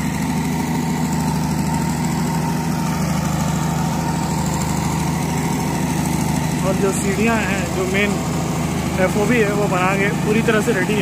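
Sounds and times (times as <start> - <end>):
generator engine drone: 0.0 - 11.0.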